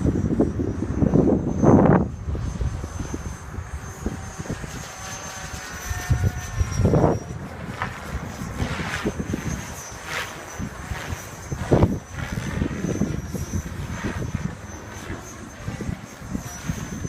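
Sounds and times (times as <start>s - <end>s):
rc helicopter motor whine: 0.0s - 17.0s
wind buffeting microphone: 0.0s - 17.0s.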